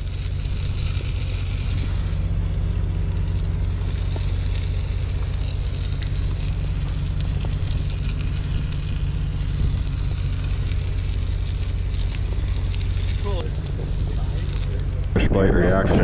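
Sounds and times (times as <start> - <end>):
steak sizzling in skillet: 0.0 - 15.2
low rumble: 0.0 - 16.0.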